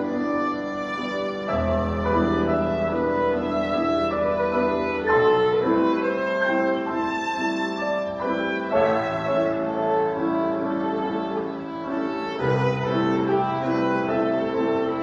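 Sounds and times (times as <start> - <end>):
piano accompaniment: 0.0 - 15.0
violin playing slow melody: 0.0 - 15.0.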